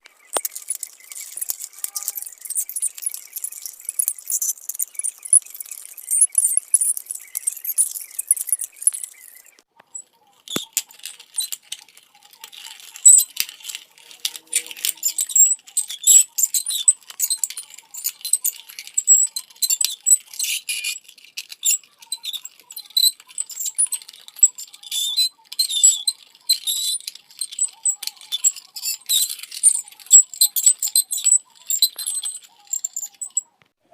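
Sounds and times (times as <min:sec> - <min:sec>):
rapid high-pitched squeaking chirps: 0:00.0 - 0:33.6.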